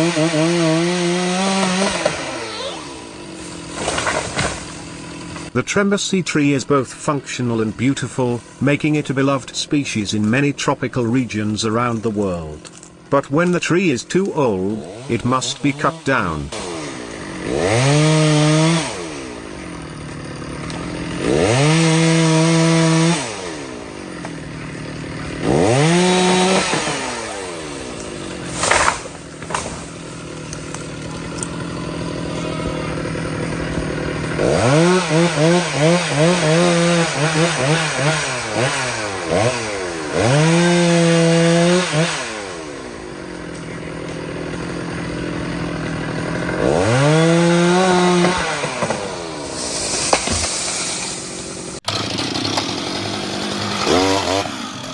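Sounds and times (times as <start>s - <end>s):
chainsaw revving and idling: 0.0s - 54.9s.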